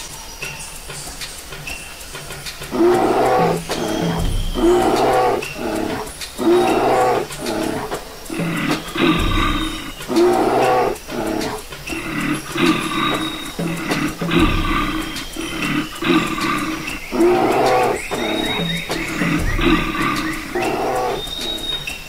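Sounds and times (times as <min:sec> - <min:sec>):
bear growling roars: 0:02.7 - 0:21.8.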